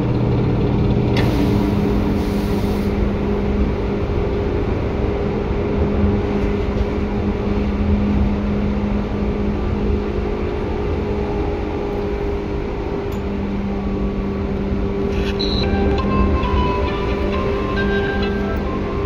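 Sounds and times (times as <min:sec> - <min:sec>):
electric train rumble and hum: 0:00.0 - 0:19.0.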